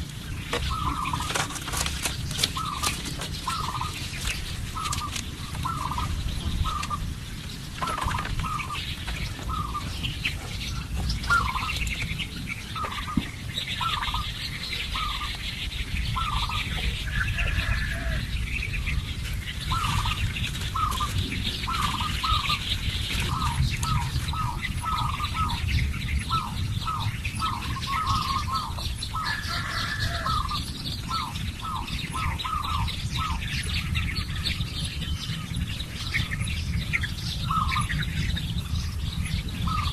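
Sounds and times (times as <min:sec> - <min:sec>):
higher bird calls: 0:00.0 - 0:39.9.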